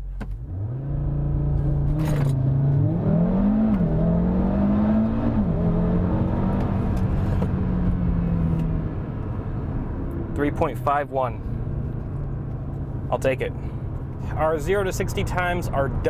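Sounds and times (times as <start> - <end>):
car engine accelerating: 0.3 - 16.0.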